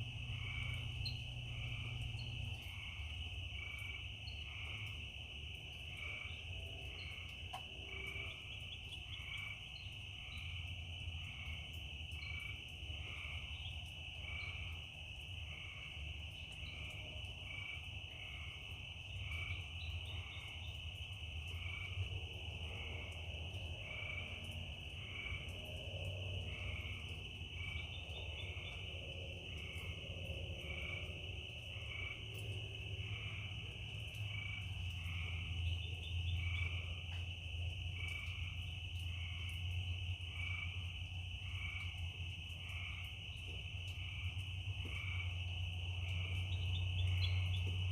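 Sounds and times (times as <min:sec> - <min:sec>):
cricket trill: 0:00.0 - 0:47.9.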